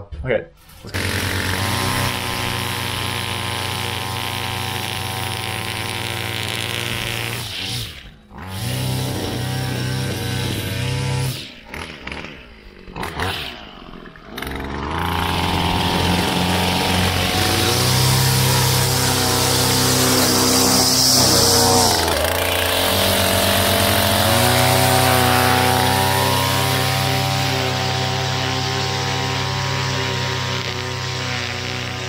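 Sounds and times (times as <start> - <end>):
small two-stroke engine revving: 0.6 - 32.0.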